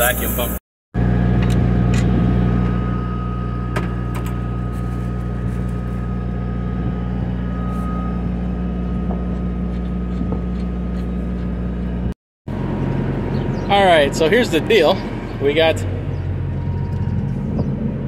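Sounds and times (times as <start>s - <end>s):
engine idling: 1.0s - 18.0s.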